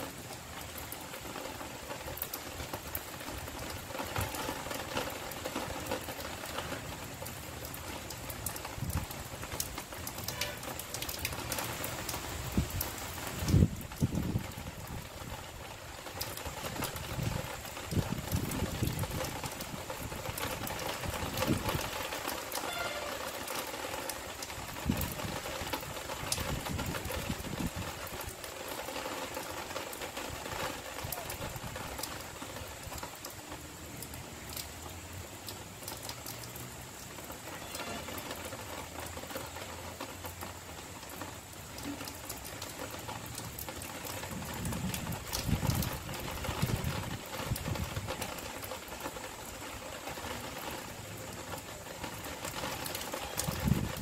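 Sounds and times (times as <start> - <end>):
light rain hissing: 0.0 - 54.0.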